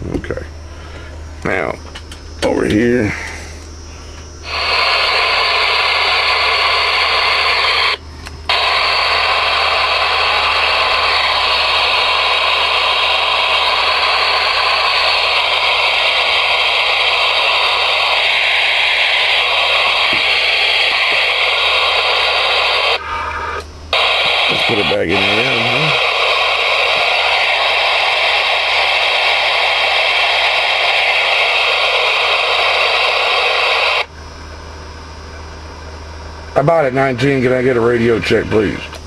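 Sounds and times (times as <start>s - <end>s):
radio static hiss: 0.2s - 34.1s, 36.5s - 39.0s.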